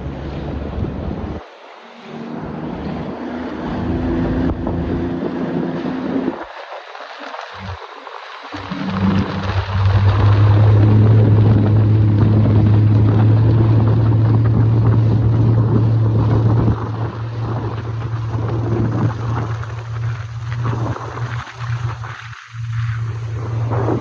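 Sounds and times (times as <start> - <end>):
wind buffeting microphone: 0.0 - 1.5, 2.3 - 6.6, 8.5 - 24.0
jet ski engine running: 0.0 - 24.0.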